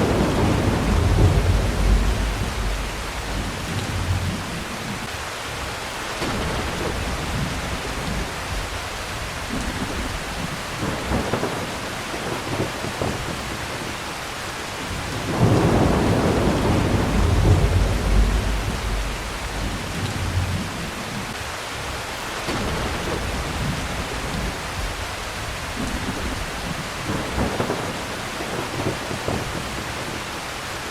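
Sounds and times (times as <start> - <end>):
thunder rumbling: 0.0 - 14.0, 14.8 - 21.4, 22.5 - 30.2
heavy rain: 0.0 - 30.9.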